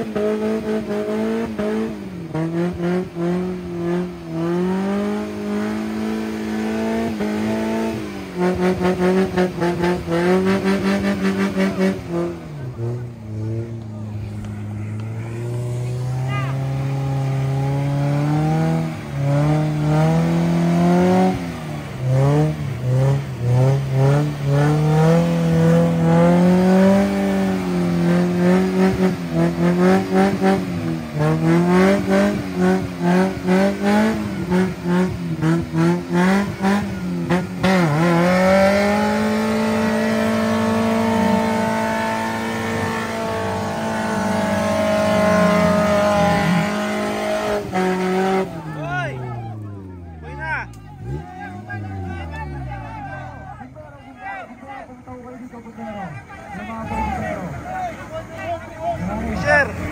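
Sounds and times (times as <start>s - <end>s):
engine revving hard: 0.0s - 53.5s, 56.6s - 57.6s, 58.8s - 59.9s.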